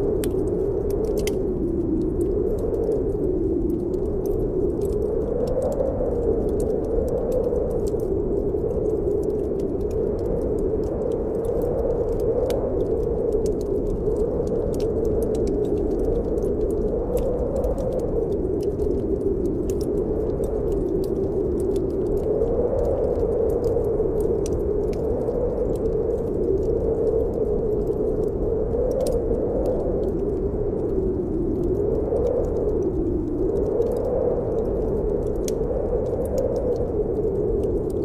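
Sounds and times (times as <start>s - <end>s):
wind howling: 0.0s - 38.0s
wood fire crackling: 0.0s - 38.0s.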